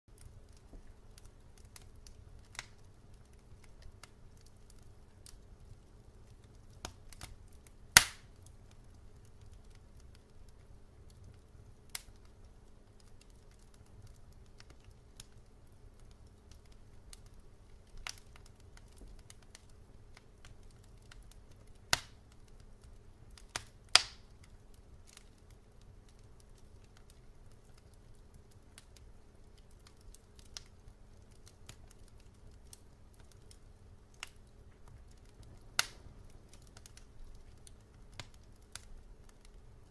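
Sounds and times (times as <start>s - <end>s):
low rumble of burning: 0.1s - 39.9s
wood fire crackling: 0.1s - 39.9s.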